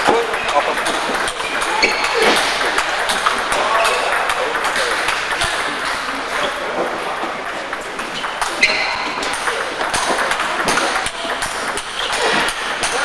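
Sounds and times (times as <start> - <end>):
faint voices: 0.0 - 13.0
table tennis balls clicking: 0.0 - 13.0.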